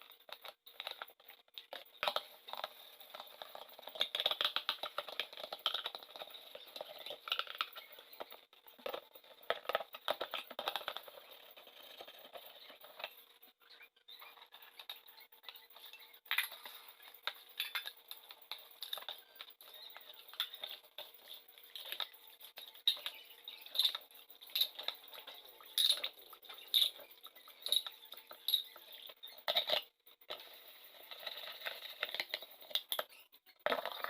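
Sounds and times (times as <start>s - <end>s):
small hard objects clinking: 0.0s - 13.4s, 14.4s - 34.0s.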